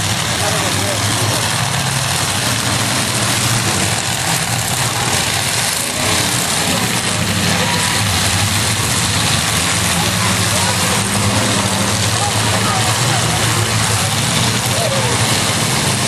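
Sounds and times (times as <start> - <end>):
truck engines droning: 0.0 - 16.0.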